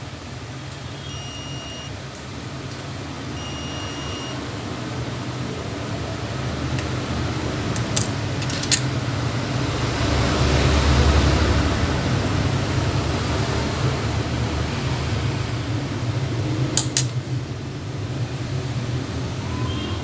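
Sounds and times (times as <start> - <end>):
fan whirring hum: 0.0 - 20.0.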